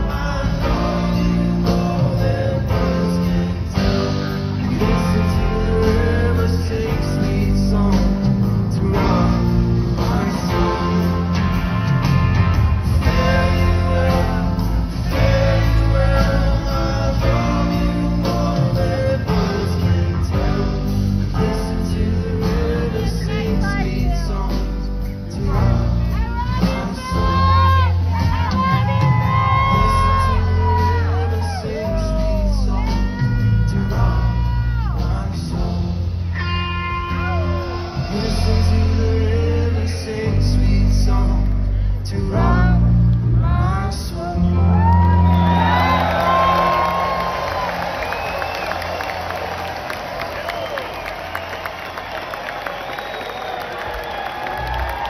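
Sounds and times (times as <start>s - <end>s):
heavy bass: 0.0s - 48.3s
drums: 0.0s - 55.0s
live rock band: 0.0s - 55.0s.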